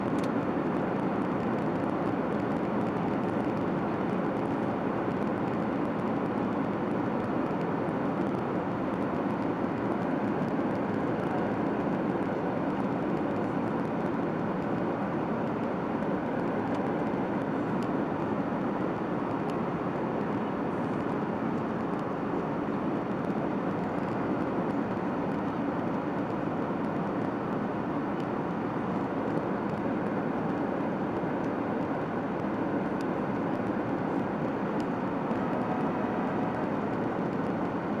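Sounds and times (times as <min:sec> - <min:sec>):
airliner cabin engine roar: 0:00.0 - 0:38.0.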